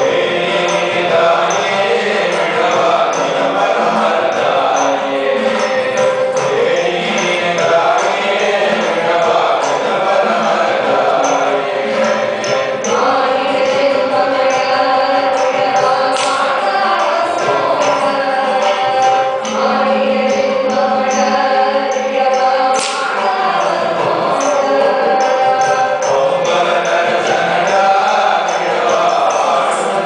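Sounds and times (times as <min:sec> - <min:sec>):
instrumental accompaniment: 0:00.0 - 0:30.0
person singing melody: 0:00.0 - 0:30.0
sharp percussion strikes: 0:00.0 - 0:30.0.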